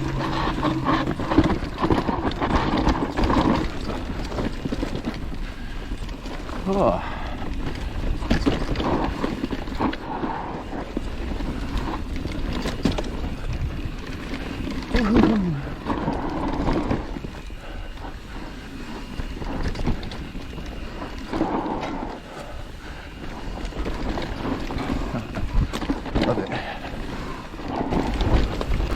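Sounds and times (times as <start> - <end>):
bike rattling and knocking: 0.0 - 28.9
bike tyres on dirt and rock: 0.0 - 28.9
wind on the microphone: 0.0 - 28.9.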